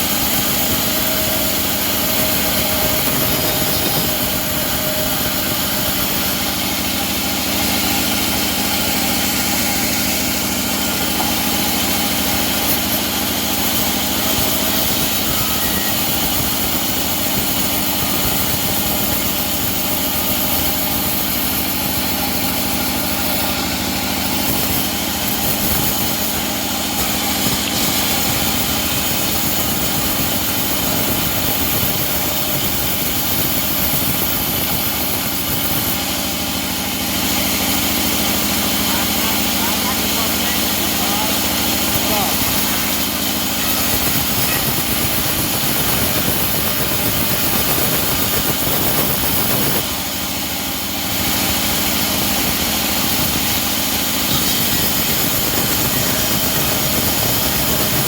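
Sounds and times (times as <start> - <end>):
sawmill engine droning: 0.0 - 58.0.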